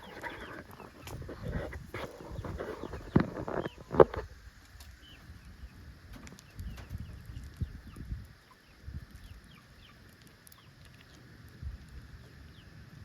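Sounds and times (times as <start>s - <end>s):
chickens chirping and clucking: 0.0s - 11.2s.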